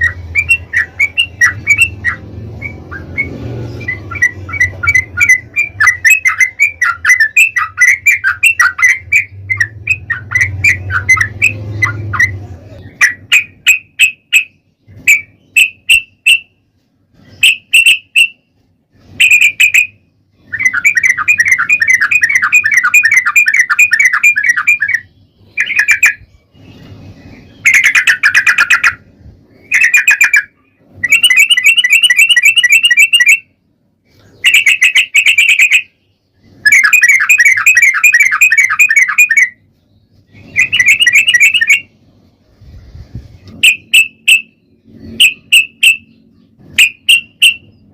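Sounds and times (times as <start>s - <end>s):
bird singing rolling trills: 0.0s - 47.9s.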